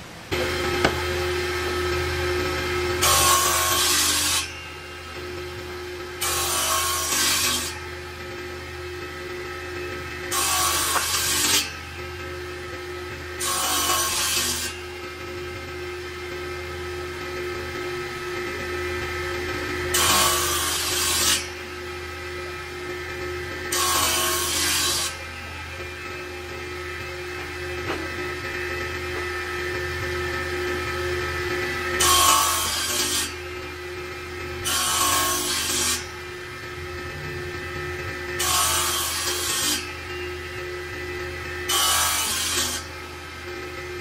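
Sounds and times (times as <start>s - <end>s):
power tool humming: 0.0s - 44.0s
power tool cutting wood: 0.2s - 44.0s.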